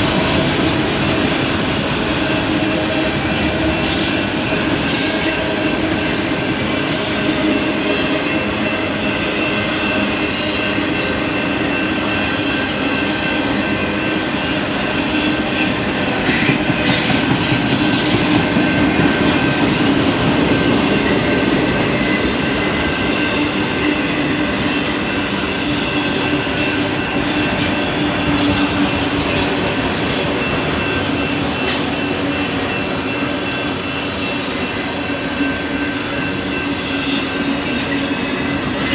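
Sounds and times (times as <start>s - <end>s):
freight train cars rumbling: 0.0s - 38.9s.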